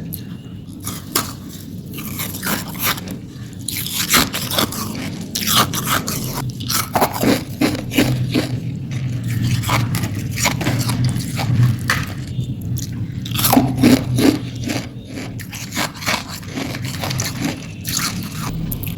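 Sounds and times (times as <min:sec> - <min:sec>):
ice crunching between teeth: 0:00.2 - 0:18.9.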